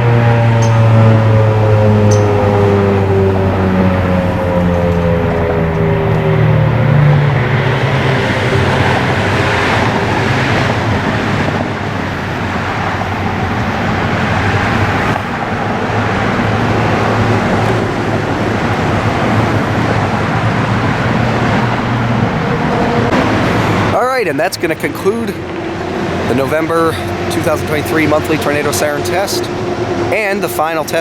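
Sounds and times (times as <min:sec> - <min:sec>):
low hum: 0:00.0 - 0:31.0
road traffic: 0:00.0 - 0:31.0.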